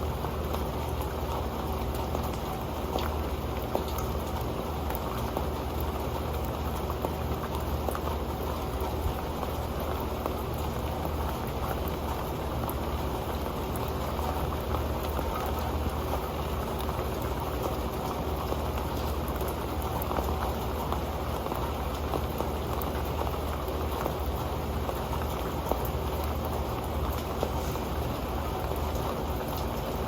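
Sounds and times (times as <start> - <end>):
raindrops ticking on a pan: 0.0 - 30.0
steady rain: 0.0 - 30.0.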